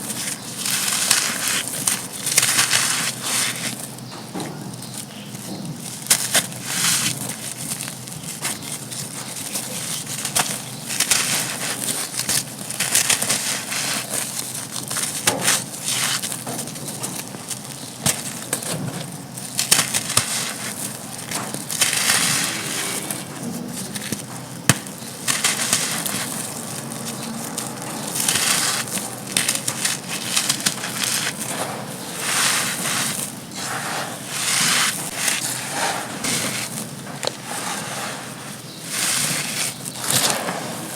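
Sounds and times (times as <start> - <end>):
cement chunks crunching and crumbling: 0.0 - 40.9.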